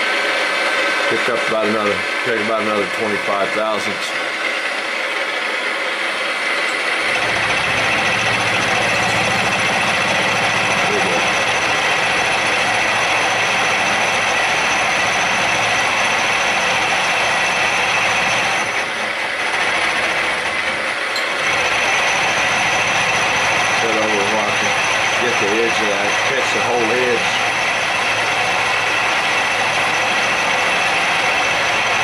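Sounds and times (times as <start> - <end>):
milling machine cutting metal: 0.0 - 32.0.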